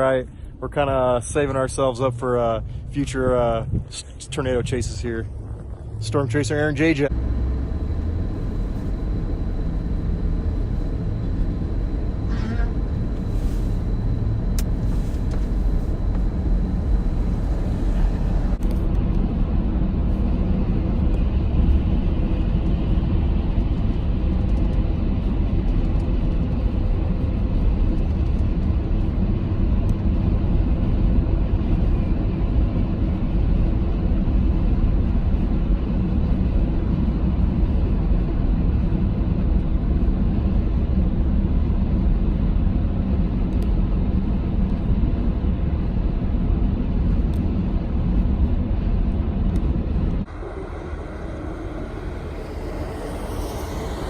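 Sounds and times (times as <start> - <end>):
low rumbling noise: 0.0 - 54.0.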